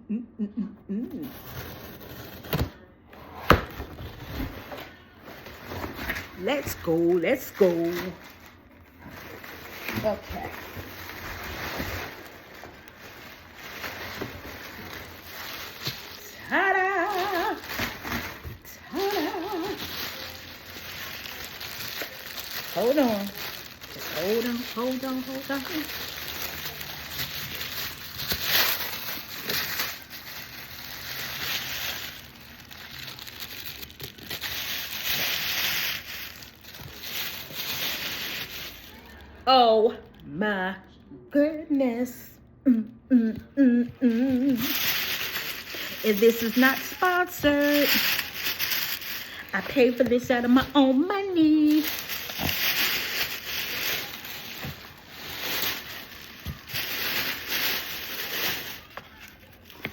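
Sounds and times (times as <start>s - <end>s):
packaging crinkling: 1.2s - 40.2s, 43.9s - 59.9s.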